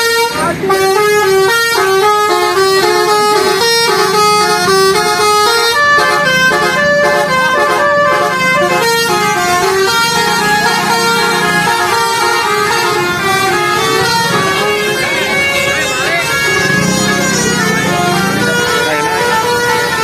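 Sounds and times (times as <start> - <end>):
musical air horn playing a tune: 0.0 - 20.0.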